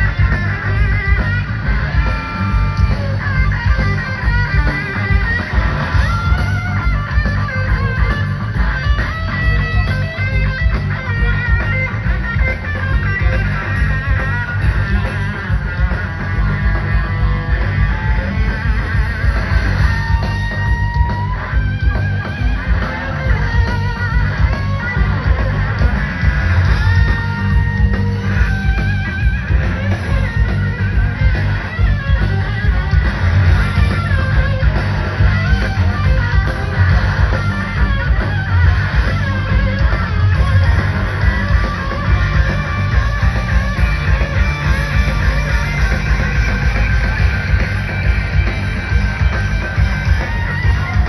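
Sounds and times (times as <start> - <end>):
drums: 0.0 - 51.0
heavy bass: 0.0 - 51.0
lead electric guitar: 0.0 - 51.0.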